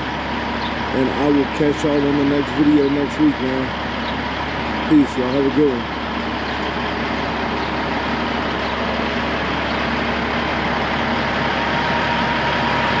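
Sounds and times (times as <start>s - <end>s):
truck diesel engine: 0.0s - 13.0s.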